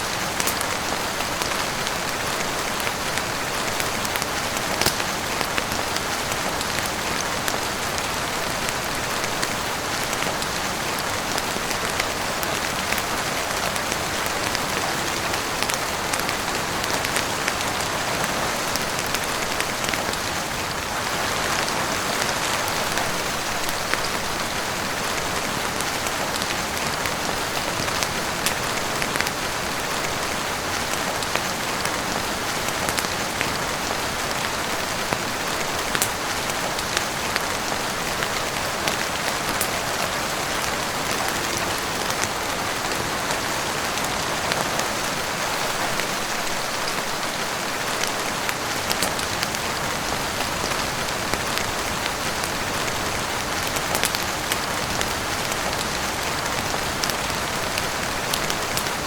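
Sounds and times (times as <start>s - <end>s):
heavy rain on a roof: 0.0s - 59.0s.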